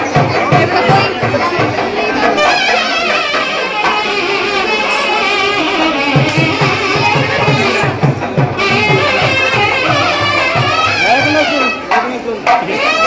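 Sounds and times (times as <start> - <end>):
drum beat: 0.0 - 13.0
ornamented melody: 0.0 - 13.0.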